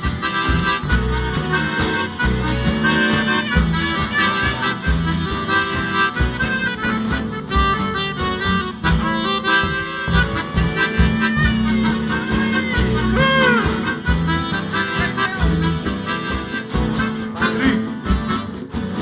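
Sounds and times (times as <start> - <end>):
country band playing: 0.0 - 19.0.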